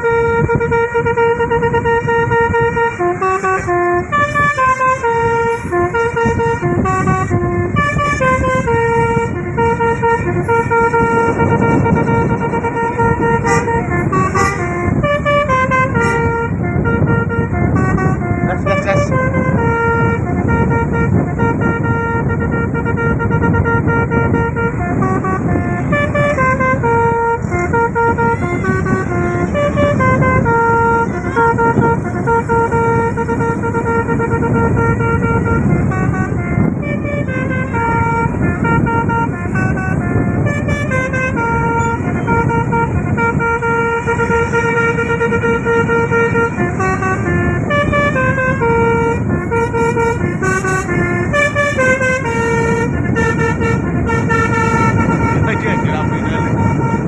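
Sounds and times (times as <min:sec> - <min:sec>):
bus horn playing melody: 0:00.0 - 0:57.0
steady low rumble: 0:00.0 - 0:57.0.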